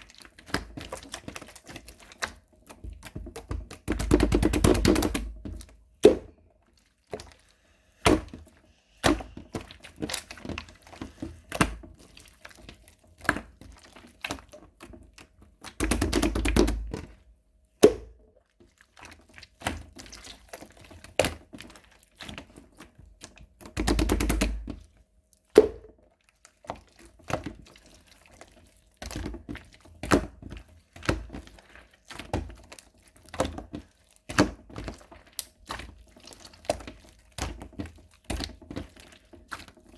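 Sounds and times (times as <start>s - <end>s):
slime squishing with wet pops: 0.0s - 39.9s.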